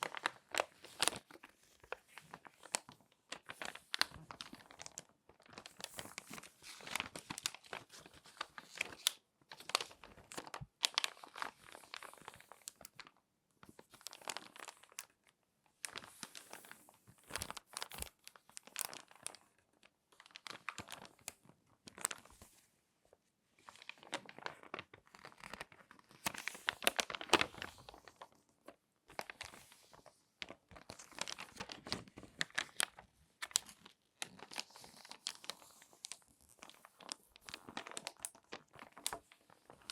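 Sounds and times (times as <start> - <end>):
magazine pages crackling: 0.0 - 13.1, 13.7 - 15.1, 15.8 - 19.5, 20.2 - 22.6, 23.6 - 39.9.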